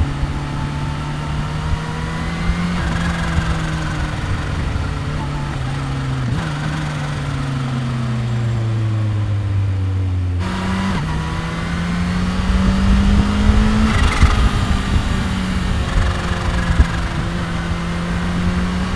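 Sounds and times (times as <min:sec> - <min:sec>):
motorcycle engine and exhaust: 0:00.0 - 0:18.9.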